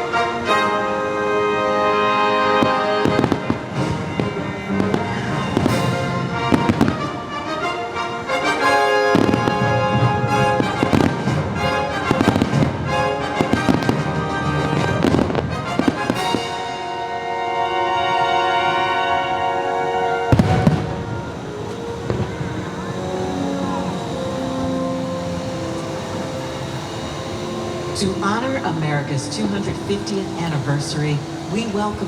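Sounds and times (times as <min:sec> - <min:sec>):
fireworks show music: 0:00.0 - 0:32.0
fireworks bangs: 0:02.6 - 0:17.5, 0:18.6 - 0:32.0.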